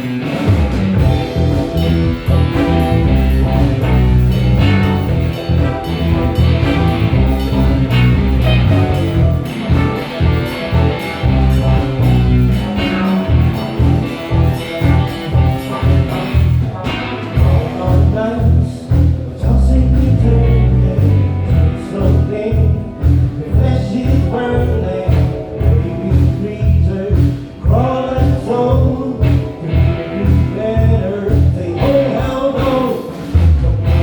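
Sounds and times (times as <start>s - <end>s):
heavy pulsing bass line: 0.0s - 32.7s, 33.4s - 34.0s
drums: 0.0s - 34.0s
live band playing: 0.0s - 34.0s.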